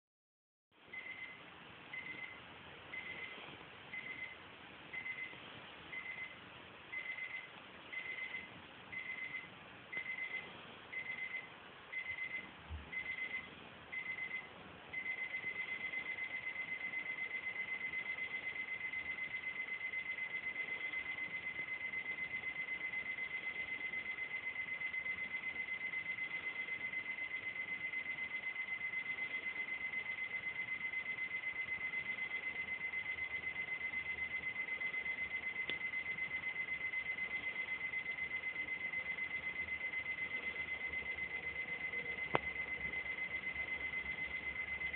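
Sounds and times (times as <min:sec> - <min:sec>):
high-pitched electronic beeping: 0:00.9 - 0:06.3, 0:06.9 - 0:44.9
continuous electronic tone: 0:00.9 - 0:44.9.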